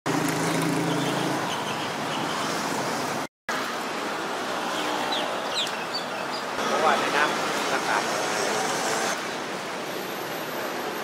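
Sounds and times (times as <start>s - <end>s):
road traffic noise: 0.1s - 11.0s.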